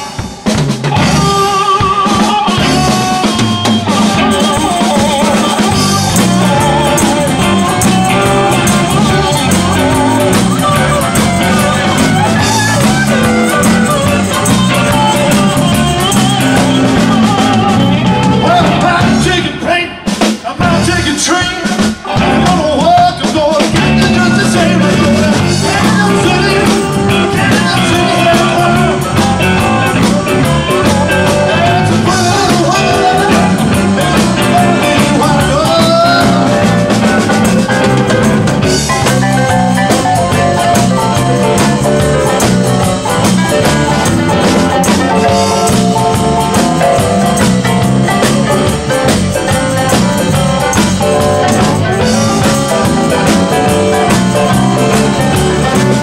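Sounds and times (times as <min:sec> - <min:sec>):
man singing lead vocal: 0:00.0 - 0:56.0
rock and roll band playing: 0:00.0 - 0:56.0.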